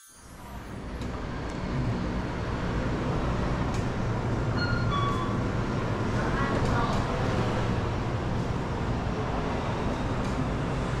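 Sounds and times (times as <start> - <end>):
city traffic rumble: 0.2 - 11.0.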